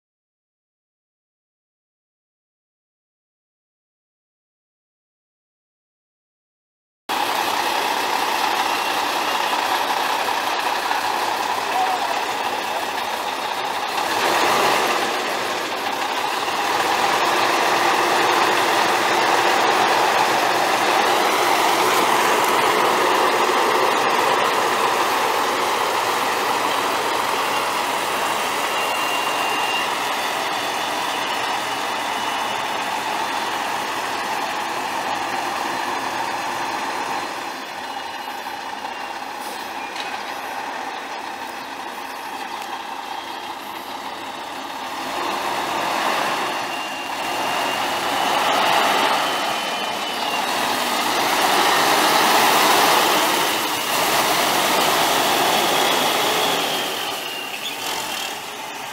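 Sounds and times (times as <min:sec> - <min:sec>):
diesel truck engine running: 0:07.1 - 0:58.9.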